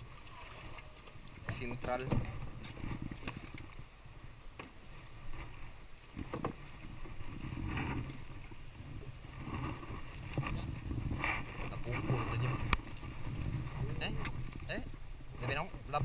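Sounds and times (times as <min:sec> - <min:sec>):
fish knocking and rustling: 0:01.2 - 0:03.9, 0:04.6 - 0:14.7.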